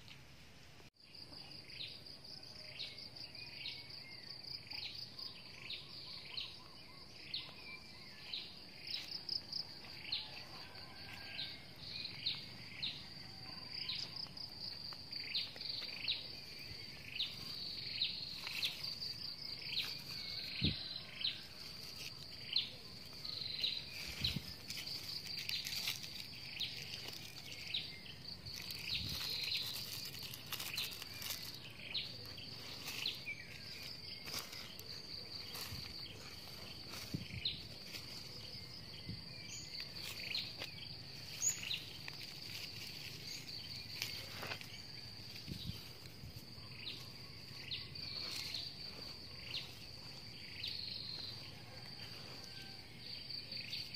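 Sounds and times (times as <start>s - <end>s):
bird chirping: 1.0s - 51.8s
high-pitched insect trill: 1.0s - 53.9s.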